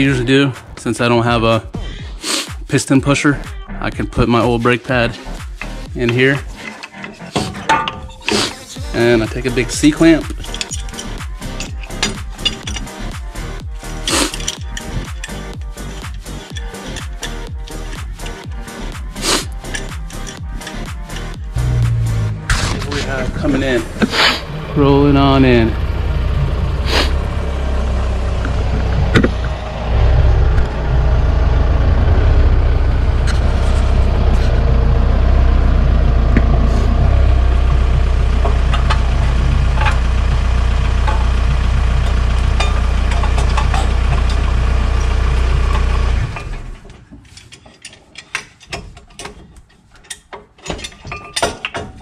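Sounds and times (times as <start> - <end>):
car engine idling: 5.0 - 46.9.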